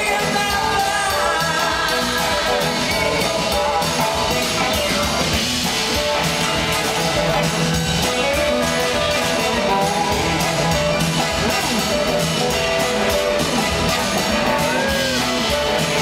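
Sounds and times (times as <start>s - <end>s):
driving drum kit: 0.0s - 16.0s
electric guitars: 0.0s - 16.0s
horn section: 0.0s - 16.0s.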